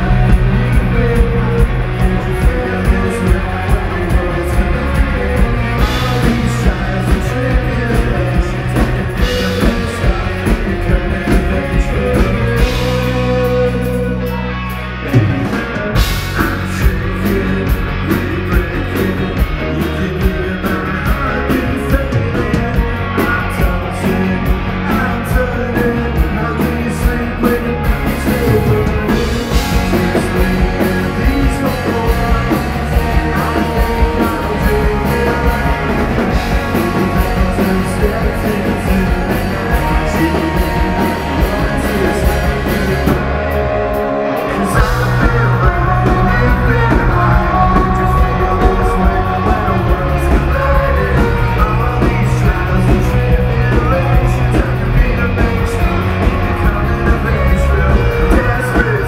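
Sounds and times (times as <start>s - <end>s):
drum kit steady beat: 0.0s - 59.0s
electric guitars: 0.0s - 59.0s.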